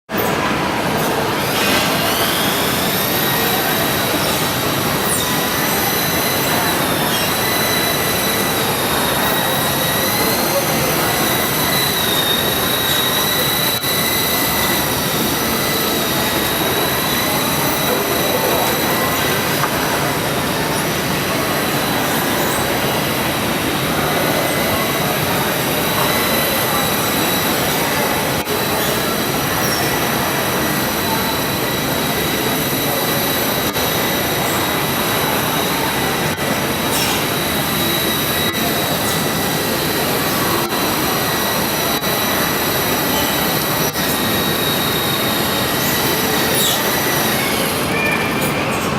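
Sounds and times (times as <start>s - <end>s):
helicopter running: 0.1s - 48.9s.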